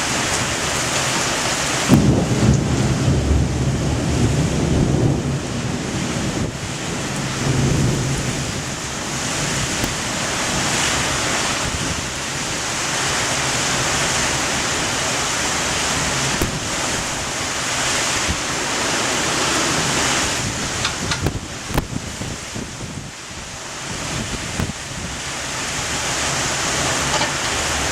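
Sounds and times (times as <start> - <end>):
heavy rain: 0.0 - 27.9
strong wind gusts: 0.0 - 27.9.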